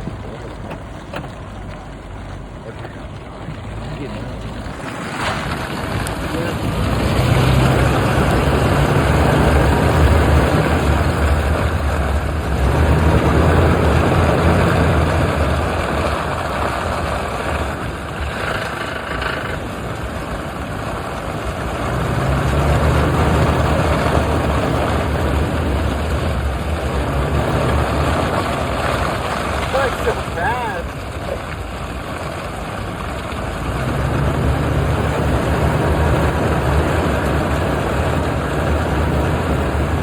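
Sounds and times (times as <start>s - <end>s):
car engine drone: 0.0s - 40.0s
wind and road noise: 0.0s - 40.0s.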